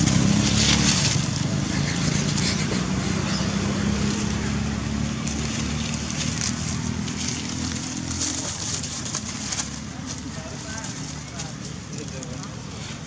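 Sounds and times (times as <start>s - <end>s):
dry leaves rustling: 0.0s - 13.0s
vehicle engine humming: 0.0s - 13.0s.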